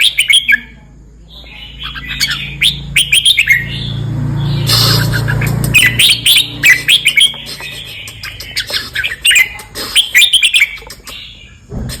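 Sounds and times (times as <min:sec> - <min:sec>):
bird chirping phrases: 0:00.0 - 0:12.0.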